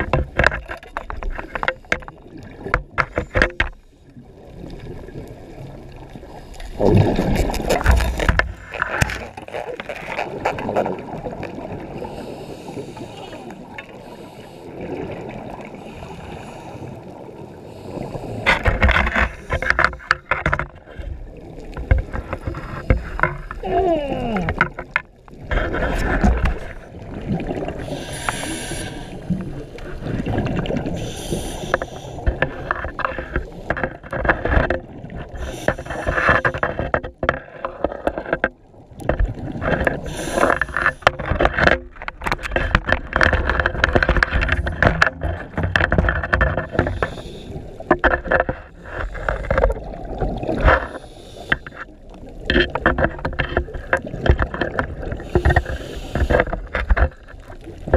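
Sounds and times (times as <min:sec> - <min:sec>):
small underwater clicks: 0:00.0 - 0:03.9, 0:04.6 - 0:16.0, 0:17.1 - 0:57.9
underwater rumble: 0:00.0 - 0:57.9.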